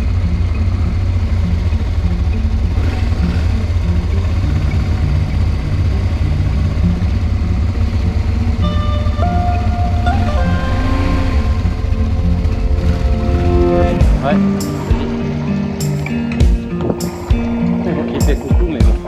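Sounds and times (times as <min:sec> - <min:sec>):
motorcycle engine rumbling: 0:00.0 - 0:19.0
music: 0:00.0 - 0:19.0.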